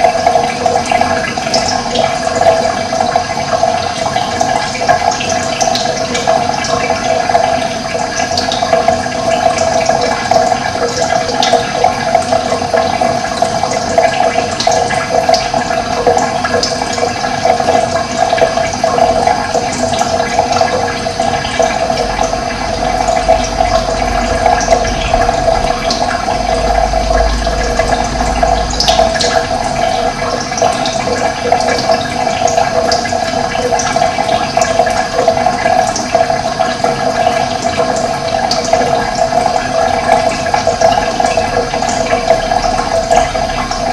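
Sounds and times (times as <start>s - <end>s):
running water flowing: 0.0s - 43.9s.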